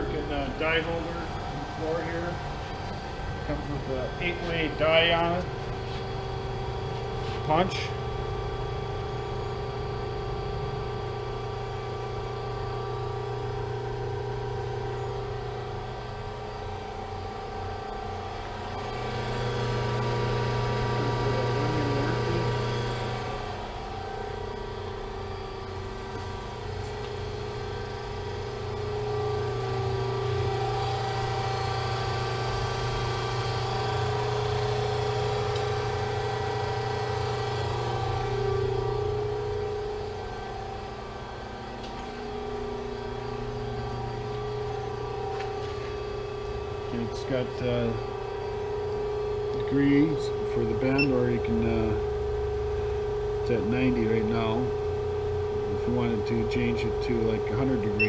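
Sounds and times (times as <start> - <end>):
hydraulic oil pump humming: 0.0 - 58.0.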